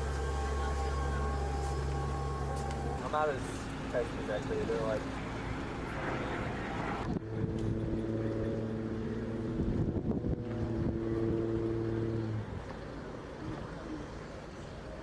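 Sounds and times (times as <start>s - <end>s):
droning engine hum: 0.0s - 15.0s.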